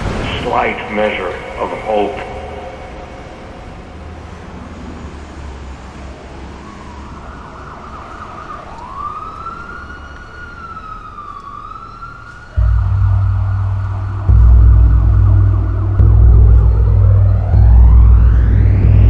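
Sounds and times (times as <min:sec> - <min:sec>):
city traffic: 0:00.0 - 0:19.0
emergency vehicle siren: 0:00.0 - 0:19.0.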